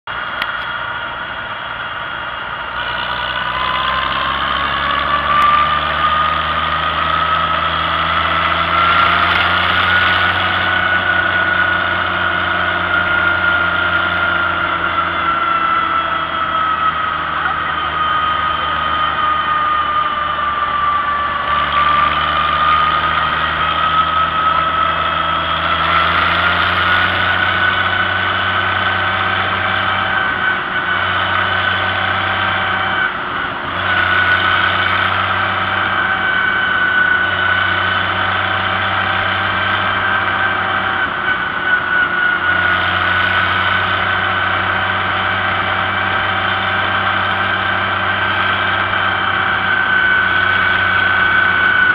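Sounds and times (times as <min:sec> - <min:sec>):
steady whine: 0:00.0 - 0:51.9
tractor engine running: 0:00.0 - 0:51.9.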